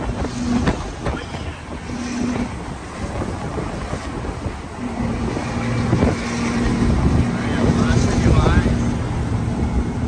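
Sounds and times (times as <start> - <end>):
truck engine and tyres rumbling: 0.0 - 10.0
wind rushing into microphone: 0.0 - 10.0.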